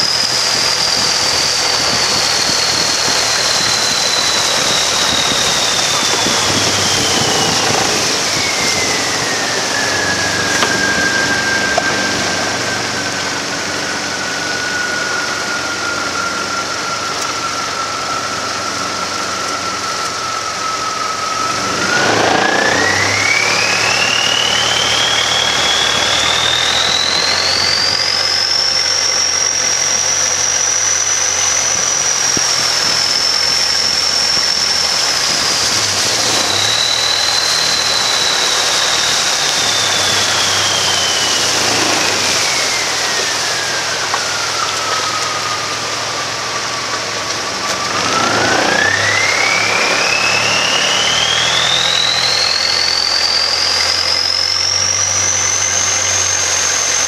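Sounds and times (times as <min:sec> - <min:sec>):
boat engine whining: 0:00.0 - 0:57.0.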